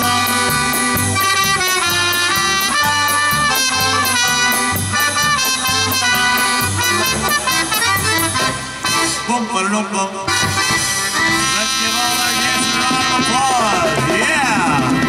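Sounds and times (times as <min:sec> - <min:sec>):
drum kit beat: 0:00.0 - 0:09.2, 0:10.4 - 0:15.0
accordion: 0:00.0 - 0:15.0
trumpet melody: 0:00.0 - 0:15.0.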